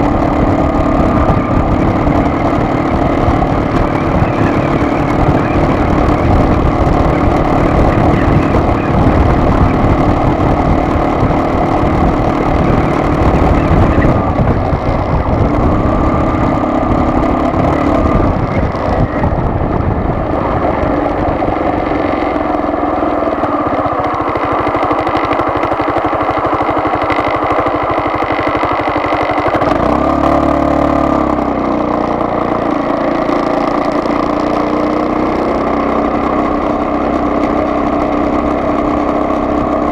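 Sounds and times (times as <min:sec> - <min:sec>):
road rumble: 0:00.0 - 0:39.9
vehicle engine running: 0:00.0 - 0:39.9.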